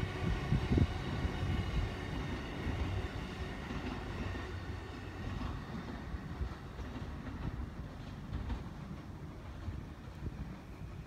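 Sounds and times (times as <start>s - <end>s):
electric train running on rails: 0.0s - 11.0s.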